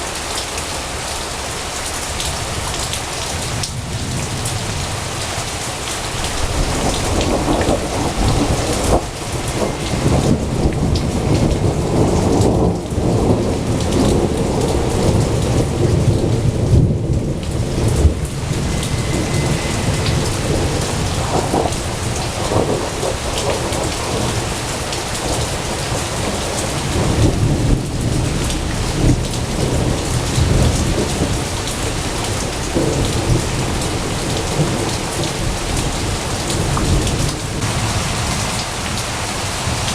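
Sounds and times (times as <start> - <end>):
steady rain: 0.0 - 39.9
rolling thunder: 2.3 - 39.9.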